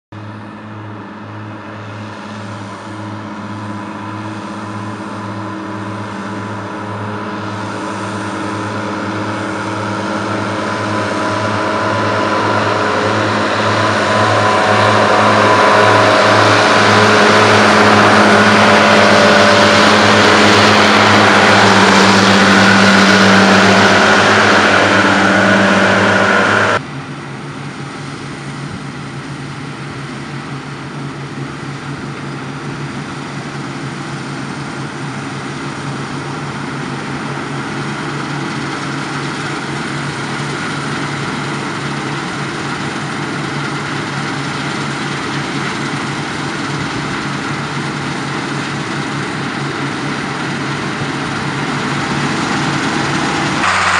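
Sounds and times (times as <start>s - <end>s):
combine harvester engines: 0.1s - 53.9s
tractor engine under load: 0.2s - 26.8s, 27.6s - 53.9s.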